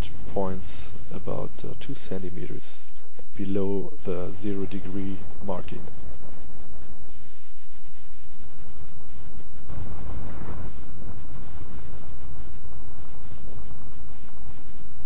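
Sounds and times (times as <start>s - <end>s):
airflow rushing over microphone: 0.0s - 15.0s.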